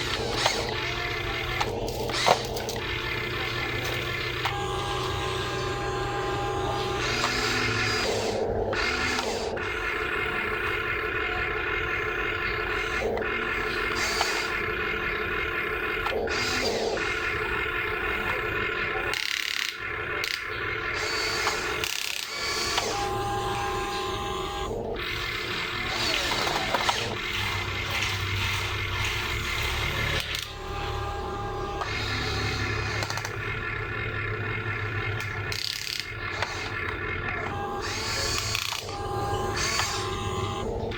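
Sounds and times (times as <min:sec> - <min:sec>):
small electric motors whirring: 0:00.0 - 0:40.9.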